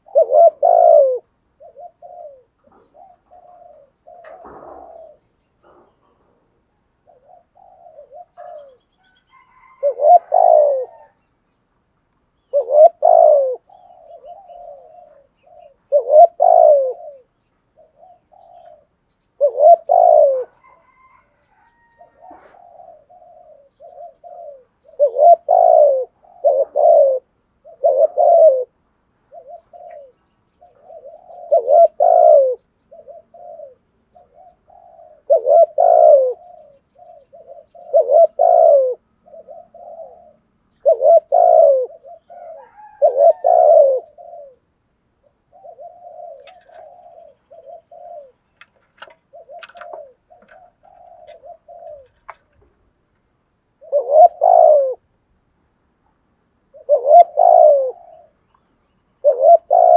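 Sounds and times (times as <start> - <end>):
dove cooing: 0.0 - 11.4, 12.4 - 53.1, 53.7 - 55.2, 56.0 - 59.9.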